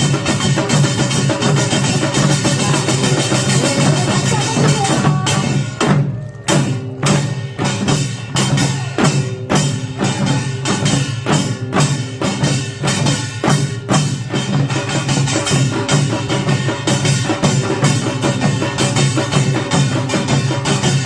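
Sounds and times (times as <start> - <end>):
percussion ensemble drumming: 0.0 - 21.0.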